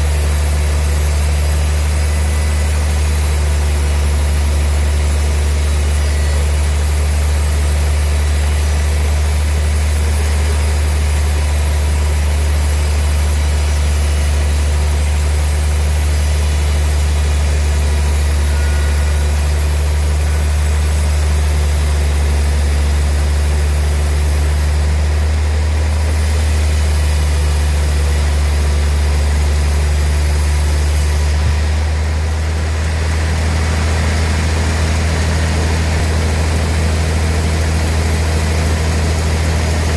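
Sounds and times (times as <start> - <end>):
machinery whir: 0.0 - 39.9
sawmill machinery low hum: 0.0 - 39.9.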